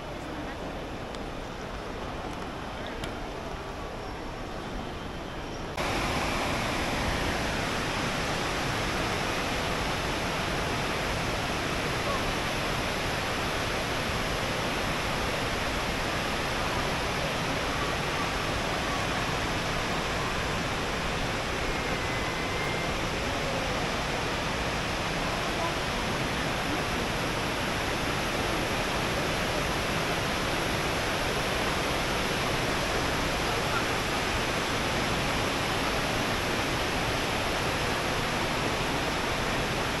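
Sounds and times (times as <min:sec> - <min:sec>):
steady rushing noise: 0:00.0 - 0:40.0.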